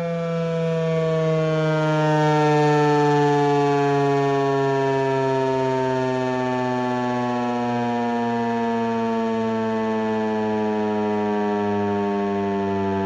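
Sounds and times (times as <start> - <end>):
warning siren with falling pitch: 0.0 - 13.0.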